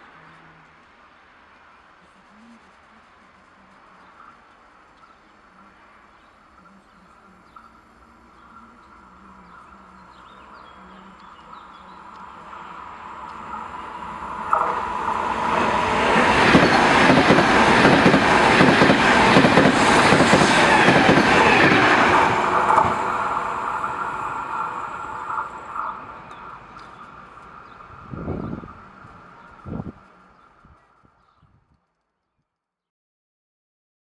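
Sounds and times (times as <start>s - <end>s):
train rumble and wheel clatter: 0.0s - 30.9s.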